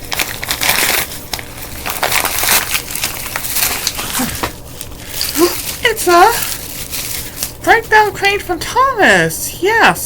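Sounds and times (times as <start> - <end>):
packaging crinkling: 0.0 - 8.4.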